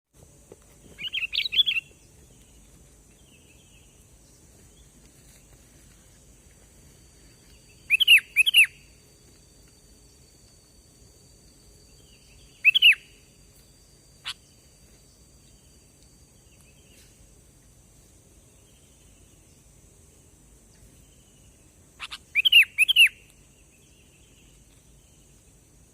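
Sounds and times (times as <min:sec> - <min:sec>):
high background hiss: 0:00.1 - 0:25.9.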